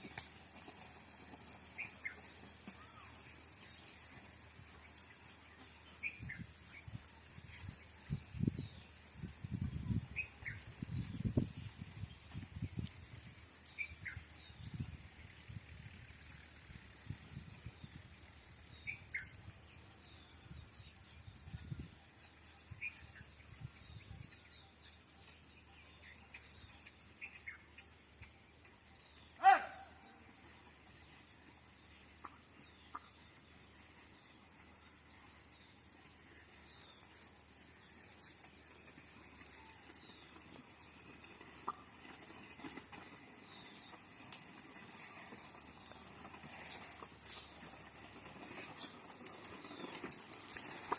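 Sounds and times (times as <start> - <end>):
birds chirping: 0.0 - 50.9.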